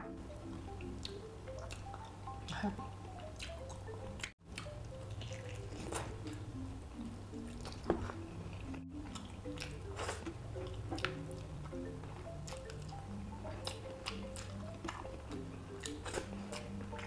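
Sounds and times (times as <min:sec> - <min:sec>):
soft background music: 0:00.0 - 0:17.0
wet chewing and sucking: 0:00.7 - 0:17.0.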